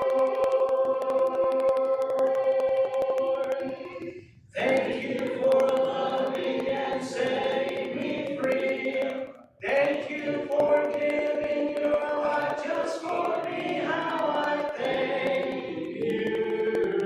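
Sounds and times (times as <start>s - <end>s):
congregation singing a hymn: 2.8s - 17.0s.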